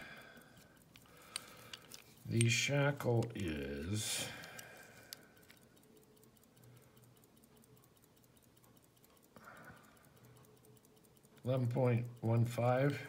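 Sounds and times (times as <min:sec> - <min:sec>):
calipers light click: 0:00.0 - 0:13.0
faint even ticking: 0:00.0 - 0:13.0.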